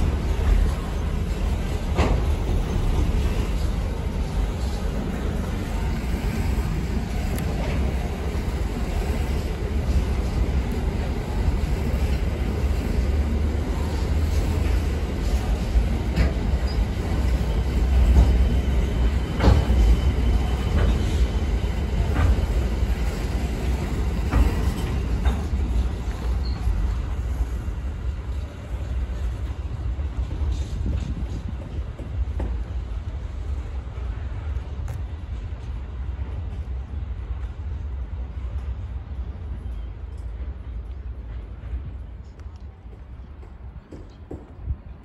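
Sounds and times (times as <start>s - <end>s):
steel wheels rumbling on rail: 0.0s - 45.0s.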